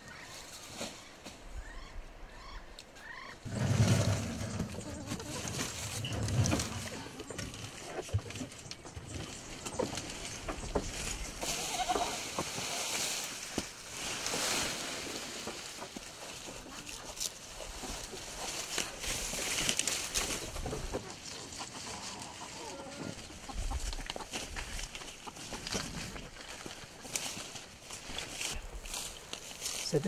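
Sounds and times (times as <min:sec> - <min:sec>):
rustling: 0:03.5 - 0:30.0.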